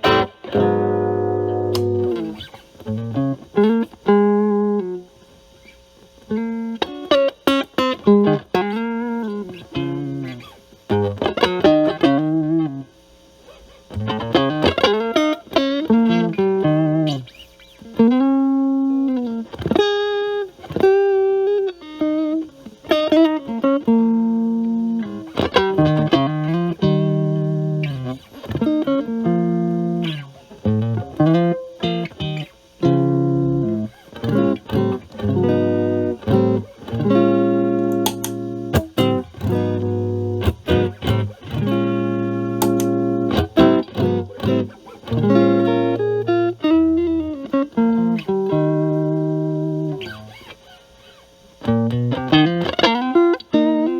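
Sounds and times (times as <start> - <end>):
overdriven electric guitar: 0.0 - 53.9.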